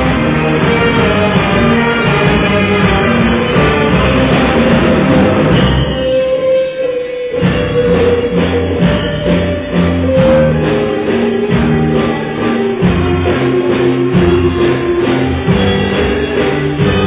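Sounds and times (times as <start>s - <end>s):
live reggae ska band playing: 0.0s - 17.0s.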